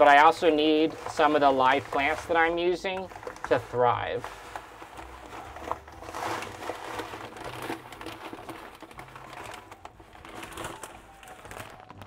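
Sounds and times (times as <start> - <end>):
gravel pouring onto glass: 0.0 - 11.8
plastic bag crinkling: 0.0 - 12.0.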